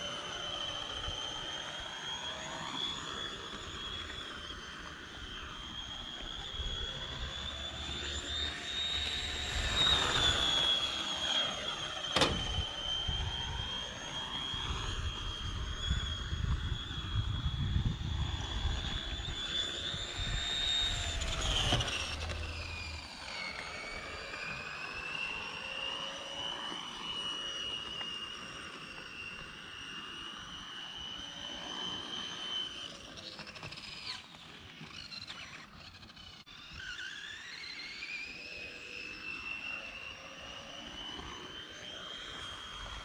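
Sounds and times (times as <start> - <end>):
model car motor whine: 0.0 - 43.0.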